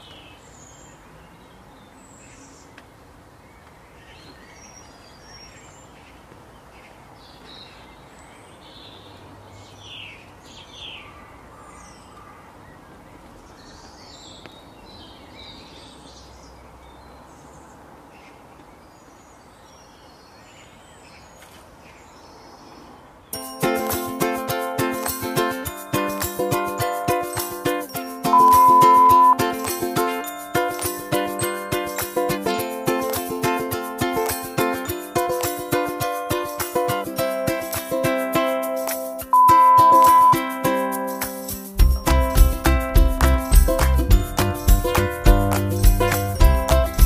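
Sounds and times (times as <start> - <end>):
outdoor background hiss: 0.0 - 46.9.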